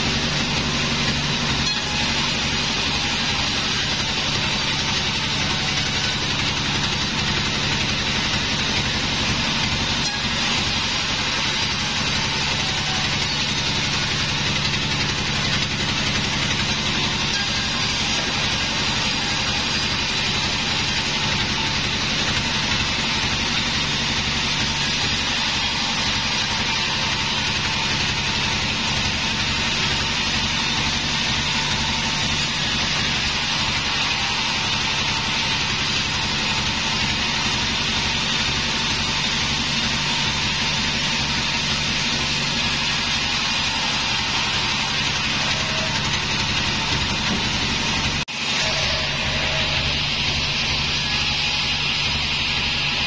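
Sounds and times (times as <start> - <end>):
band saw cutting timber: 0.0 - 53.0.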